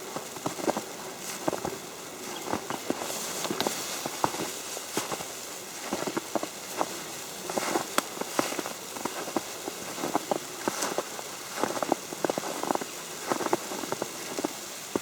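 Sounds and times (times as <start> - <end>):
footsteps crunching in snow: 0.0 - 15.0
snow pattering on umbrella: 0.0 - 15.0.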